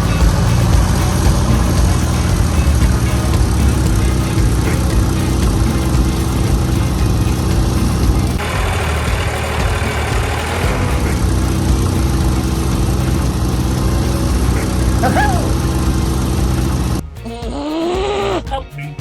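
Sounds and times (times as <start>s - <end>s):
small tractor engine running: 0.0s - 17.0s.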